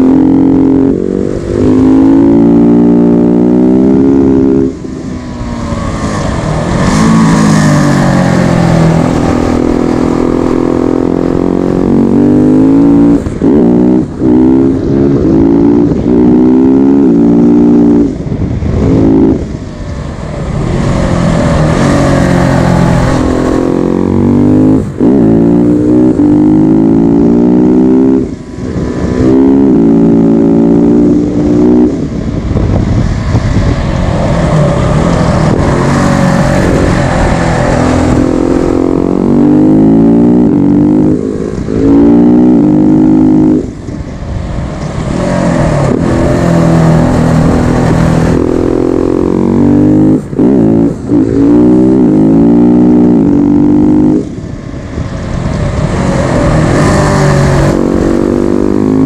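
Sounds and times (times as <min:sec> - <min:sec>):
motorcycle engine accelerating hard: 0:00.0 - 0:59.0.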